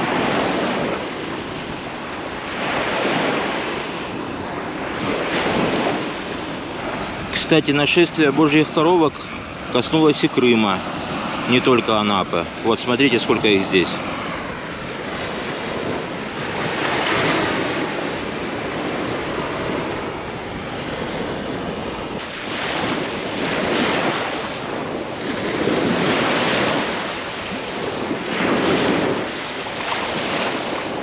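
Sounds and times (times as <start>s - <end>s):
waves breaking on shore: 0.0s - 31.0s
wind buffeting microphone: 0.0s - 31.0s.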